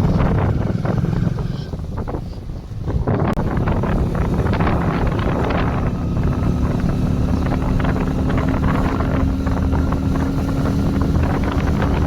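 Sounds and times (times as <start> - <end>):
motorcycle engine running: 0.0 - 2.3, 3.0 - 12.0
wind buffeting microphone: 0.0 - 12.0.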